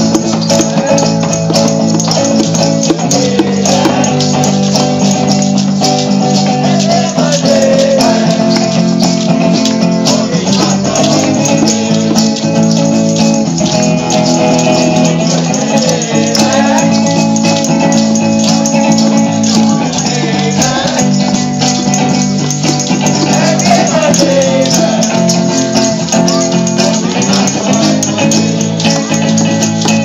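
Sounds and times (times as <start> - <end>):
group of voices singing: 0.0 - 30.0
shakers: 0.0 - 30.0
strummed acoustic guitars: 0.0 - 30.0
tambourine: 0.0 - 30.0.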